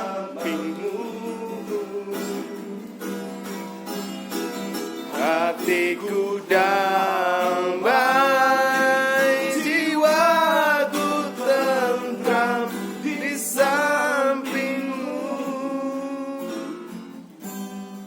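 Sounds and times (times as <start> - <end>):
man singing: 0.0 - 3.2, 5.1 - 17.3.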